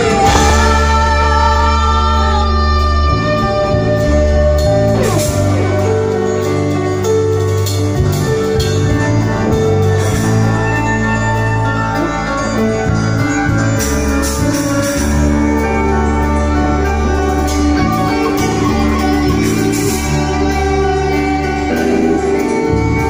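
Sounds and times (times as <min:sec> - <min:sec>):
guitar pitch slide: 0:00.0 - 0:23.0
live rock band playing: 0:00.0 - 0:23.0.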